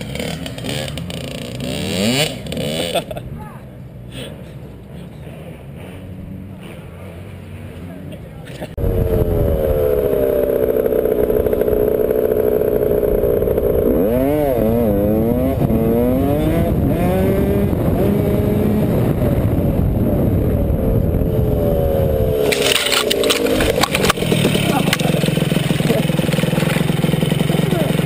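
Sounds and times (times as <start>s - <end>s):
dirt bike engine revving: 0.0s - 3.2s, 5.2s - 7.8s, 8.7s - 28.0s.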